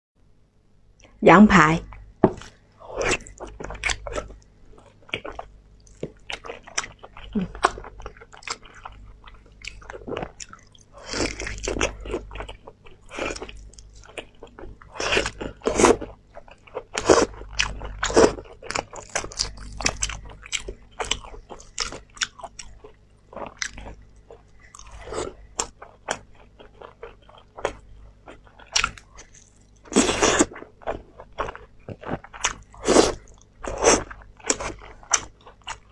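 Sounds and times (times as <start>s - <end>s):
biting and chewing meat: 2.2s - 35.9s.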